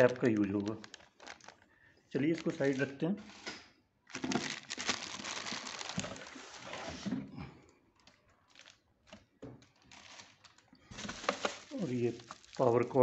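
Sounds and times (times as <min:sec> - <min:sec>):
plastic sheet crinkling: 0:00.0 - 0:03.4, 0:04.1 - 0:07.1, 0:08.0 - 0:13.0.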